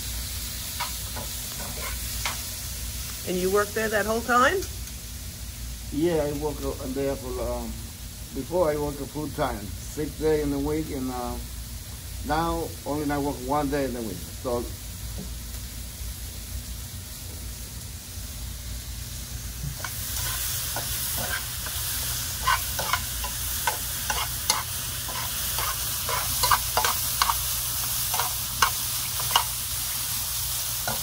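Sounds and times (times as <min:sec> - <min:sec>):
vegetables sizzling in a frying pan: 0:00.0 - 0:31.0.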